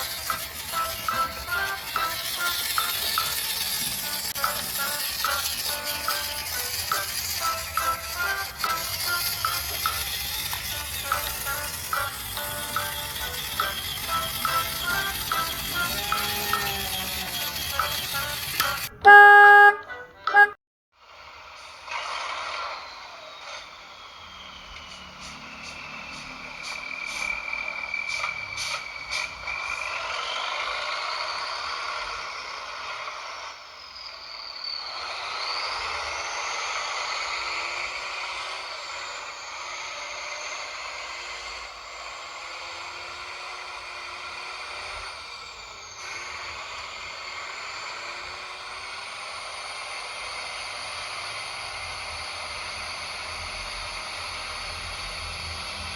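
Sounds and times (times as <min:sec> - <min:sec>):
toy truck electric motor whining: 0:00.0 - 0:55.9.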